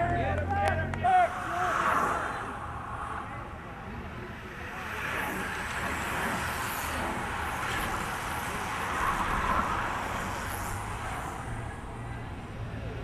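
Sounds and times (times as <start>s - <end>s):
bicycles rushing past: 0.8s - 13.0s.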